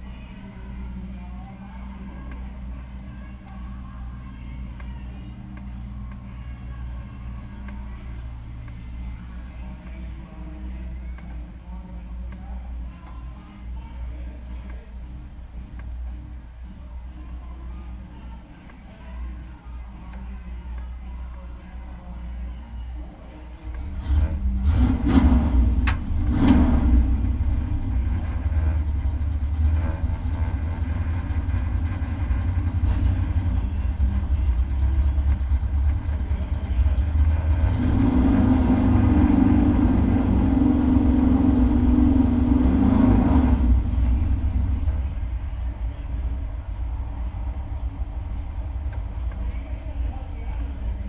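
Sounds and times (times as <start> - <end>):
truck engine drone: 0.0 - 51.0.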